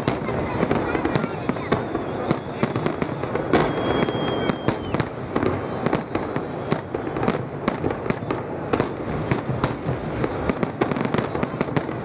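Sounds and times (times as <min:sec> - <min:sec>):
fireworks bursting with bangs: 0:00.0 - 0:12.0.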